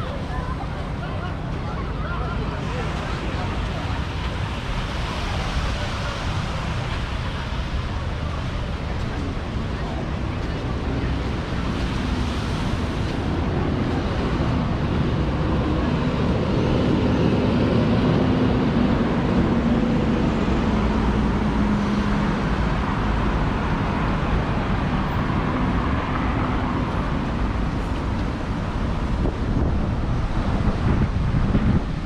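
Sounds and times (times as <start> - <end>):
street traffic: 0.0 - 32.0
wind buffeting microphone: 0.0 - 32.0.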